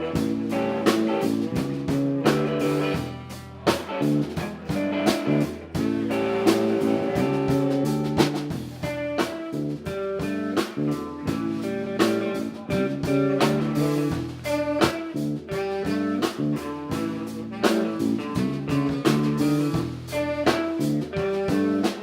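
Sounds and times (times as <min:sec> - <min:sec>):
live band playing blues groove: 0:00.0 - 0:22.0.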